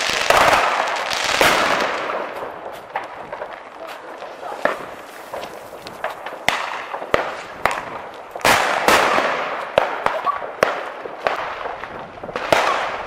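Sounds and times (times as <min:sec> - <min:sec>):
fireworks and firecrackers banging: 0:00.0 - 0:13.0.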